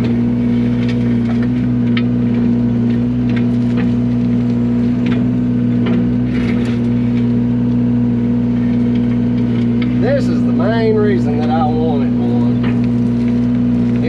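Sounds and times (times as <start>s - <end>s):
bucket scraping gravel: 0.0s - 7.5s, 8.4s - 14.0s
excavator diesel engine running: 0.0s - 14.0s.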